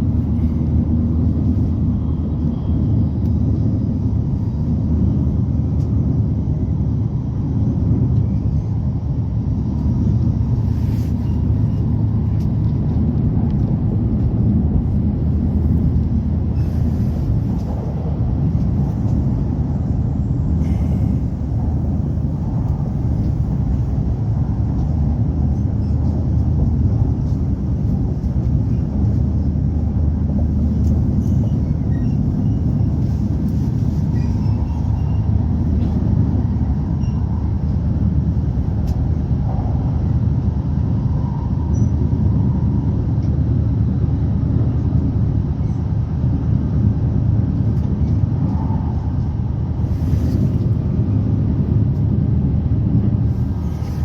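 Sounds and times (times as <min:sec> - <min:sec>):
train rumbling inside car: 0:00.0 - 0:54.0.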